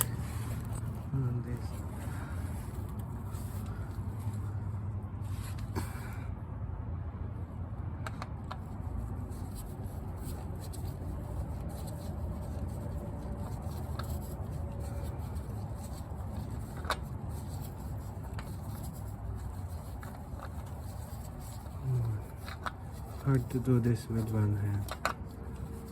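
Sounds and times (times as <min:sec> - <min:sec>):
oil filter clicking and rubbing: 0:00.0 - 0:05.8, 0:07.9 - 0:25.9
steady low rumble: 0:00.0 - 0:25.9.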